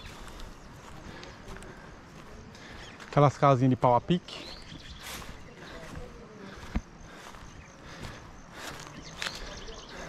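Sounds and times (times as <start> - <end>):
footsteps on forest trail: 0.0 - 10.0
insects chirping in pulses: 0.0 - 10.0.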